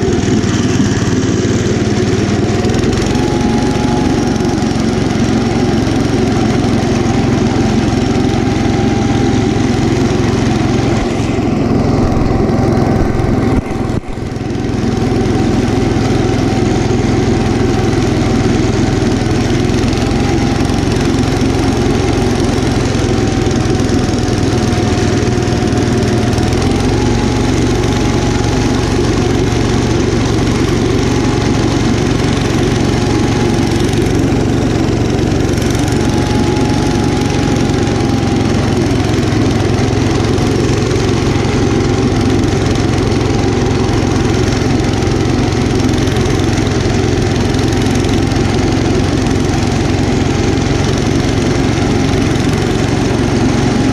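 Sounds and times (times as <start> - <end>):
single-cylinder engine running: 0.0 - 53.9
whine: 0.0 - 53.9.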